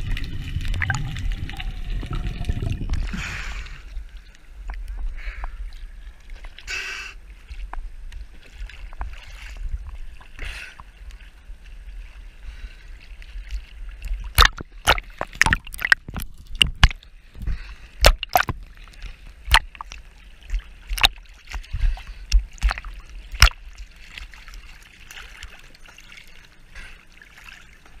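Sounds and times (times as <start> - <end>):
sea water sloshing: 0.0 - 28.0.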